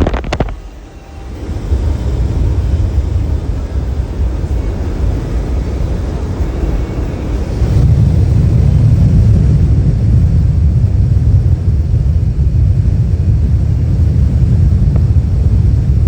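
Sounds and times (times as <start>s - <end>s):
truck driving on road: 0.0s - 16.0s.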